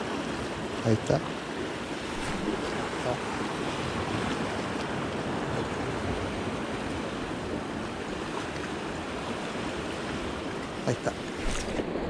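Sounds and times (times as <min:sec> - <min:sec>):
waves washing against rocks: 0:00.0 - 0:07.3, 0:07.9 - 0:12.0.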